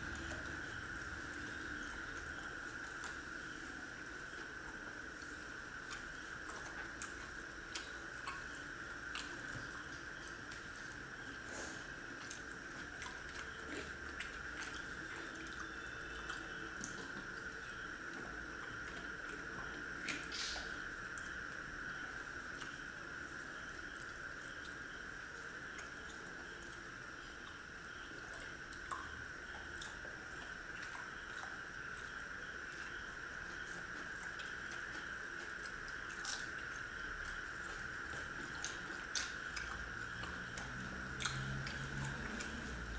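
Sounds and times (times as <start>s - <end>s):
people chewing: 0.0s - 42.9s
steady background hiss: 0.0s - 42.9s
steady background hum: 0.0s - 42.9s
wet eating sounds: 0.0s - 42.9s.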